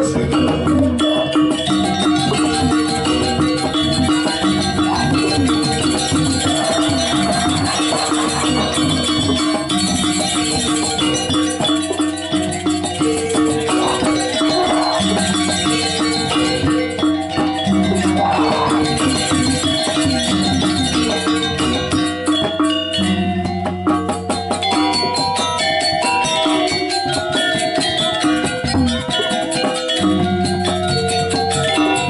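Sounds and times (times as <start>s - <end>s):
gamelan music: 0.0s - 32.0s.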